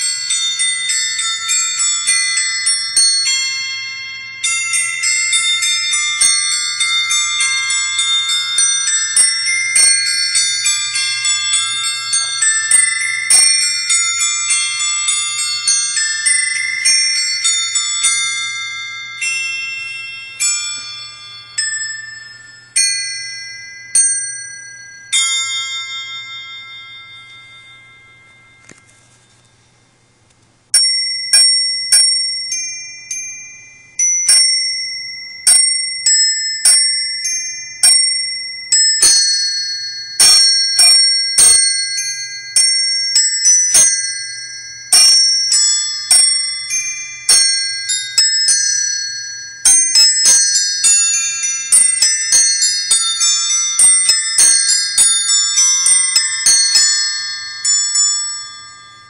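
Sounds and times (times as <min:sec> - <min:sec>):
small metal bells playing a tune: 0:00.0 - 0:30.1, 0:30.7 - 0:59.0.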